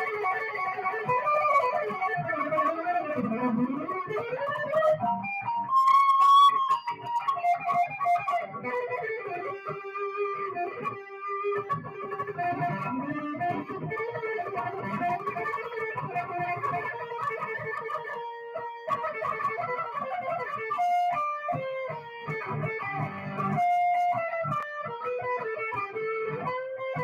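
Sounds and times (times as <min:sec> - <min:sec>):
electric guitar lead with pitch bends: 0:00.0 - 0:27.0.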